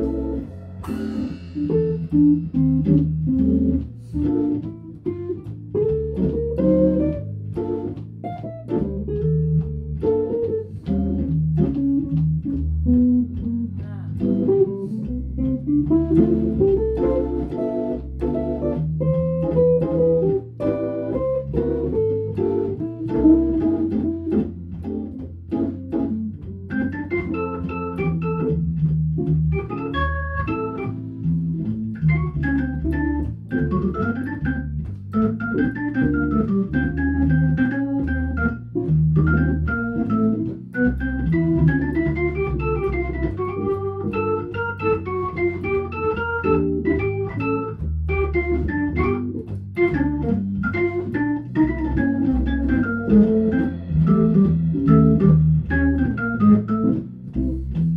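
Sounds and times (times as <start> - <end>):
bass line: 0.0 - 57.9
organ jazz solo: 0.0 - 57.9.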